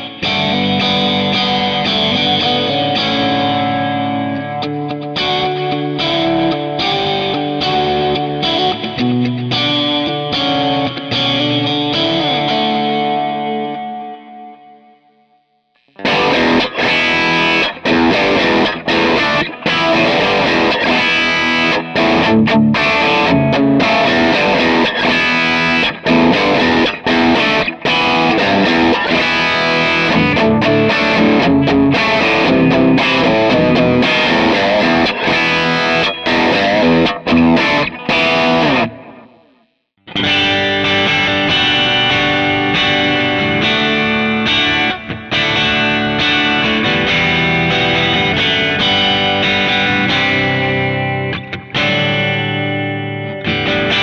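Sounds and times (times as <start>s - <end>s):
distorted electric guitar riff: 0.0s - 54.0s.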